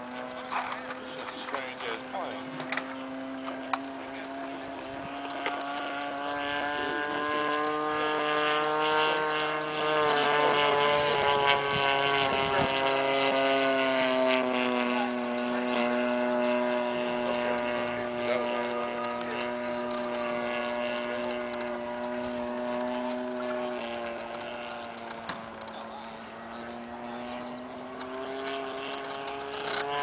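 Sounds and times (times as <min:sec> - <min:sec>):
model plane engine droning: 0:00.0 - 0:30.0.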